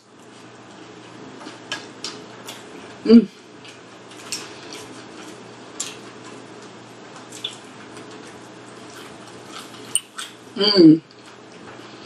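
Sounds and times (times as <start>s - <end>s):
wet chewing: 0.2s - 12.0s.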